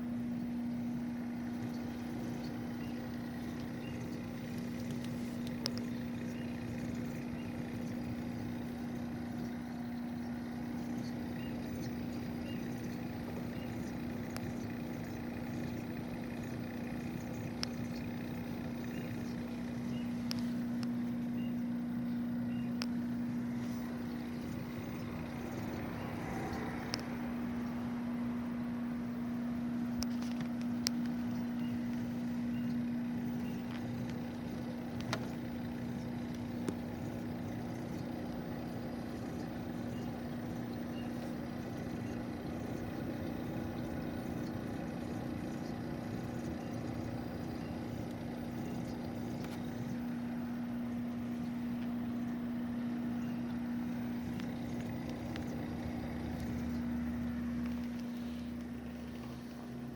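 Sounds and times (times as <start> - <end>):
dehumidifier compressor droning hum: 0.0 - 59.9.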